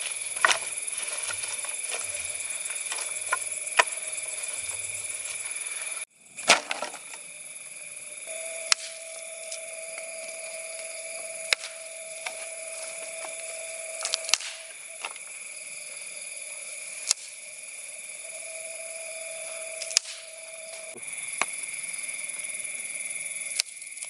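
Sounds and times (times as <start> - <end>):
crickets shrilling: 0.0 - 24.0.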